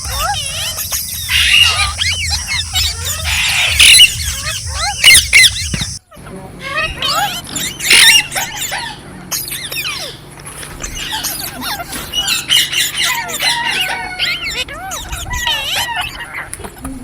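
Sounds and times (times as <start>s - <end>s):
parrots chattering and squawking: 0.0s - 16.6s.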